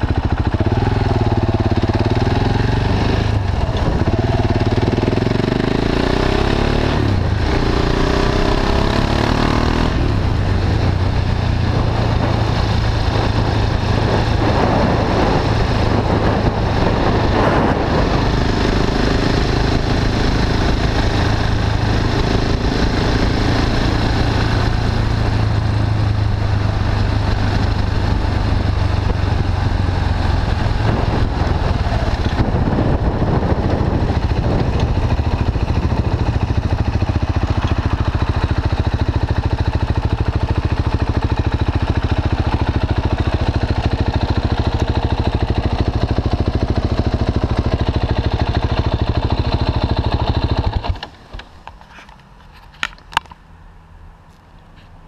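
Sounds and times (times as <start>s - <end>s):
wind rushing over microphone: 0.0s - 51.0s
motorcycle engine running: 0.0s - 52.2s.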